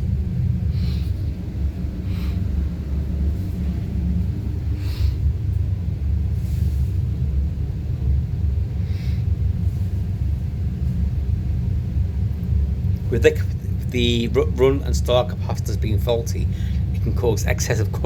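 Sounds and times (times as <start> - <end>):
refrigeration unit low rumble: 0.0 - 18.0.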